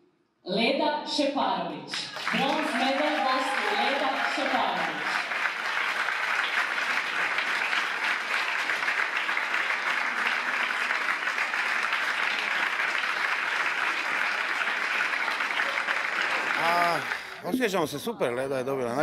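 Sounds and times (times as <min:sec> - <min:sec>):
audience applauding: 0:01.9 - 0:18.1.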